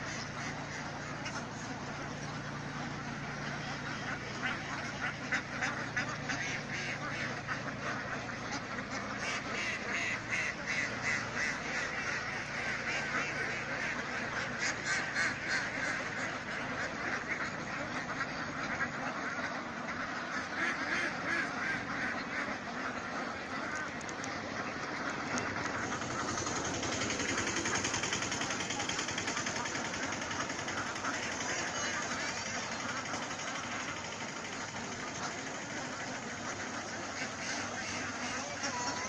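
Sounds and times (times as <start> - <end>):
flock of ducks quacking: 0.0 - 39.0.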